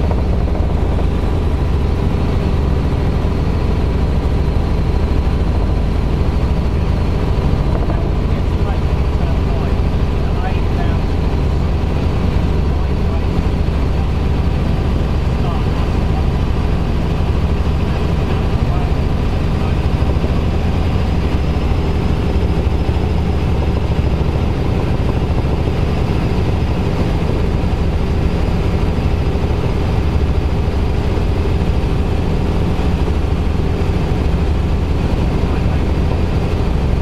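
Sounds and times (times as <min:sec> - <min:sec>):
helicopter rotor and engine droning: 0:00.0 - 0:37.0.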